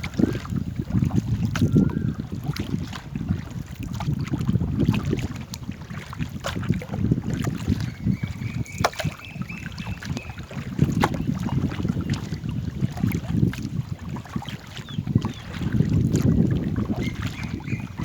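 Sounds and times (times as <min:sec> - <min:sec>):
knocks and splashes: 0:00.0 - 0:18.0
wind rumbling on microphone: 0:00.0 - 0:18.0.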